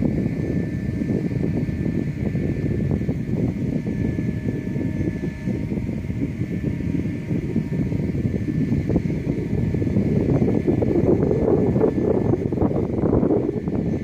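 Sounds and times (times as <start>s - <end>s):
faint steady pump hum: 0.0s - 14.0s
wind buffeting microphone: 0.0s - 14.0s.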